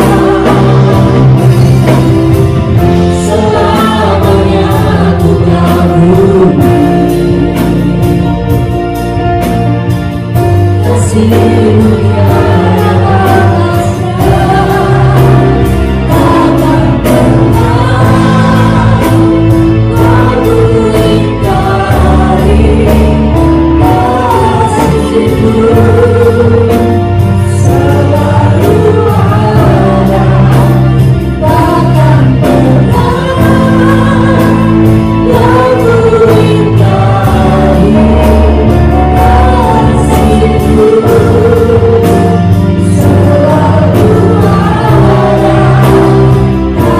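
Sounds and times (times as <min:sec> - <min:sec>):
bass: 0:00.0 - 0:46.9
drum kit beat: 0:00.0 - 0:46.9
keyboard: 0:00.0 - 0:46.9
woman singing: 0:02.8 - 0:08.2, 0:10.8 - 0:46.9.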